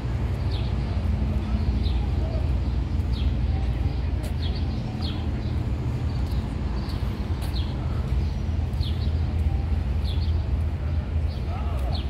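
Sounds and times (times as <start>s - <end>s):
low outdoor rumble: 0.0s - 12.0s
small birds chirping: 0.3s - 12.0s.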